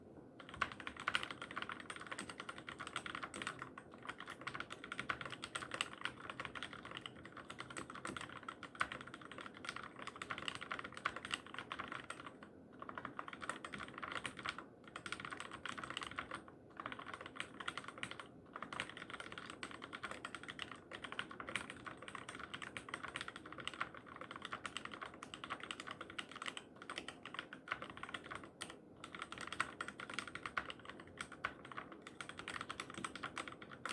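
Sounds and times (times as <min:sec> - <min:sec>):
fast typing on mechanical keyboard: 0:00.4 - 0:33.9.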